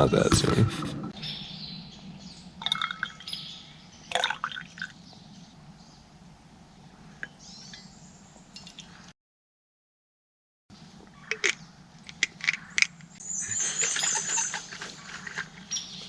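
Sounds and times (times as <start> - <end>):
birds chirping: 0.0 - 9.1, 10.7 - 16.0.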